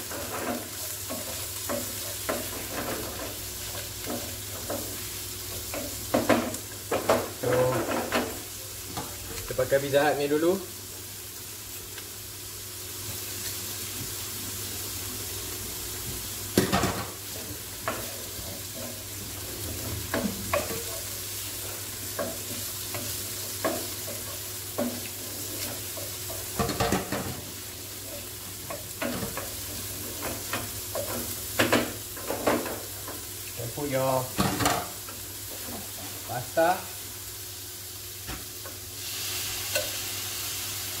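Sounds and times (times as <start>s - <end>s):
food sizzling in frying pan: 0.0s - 41.0s.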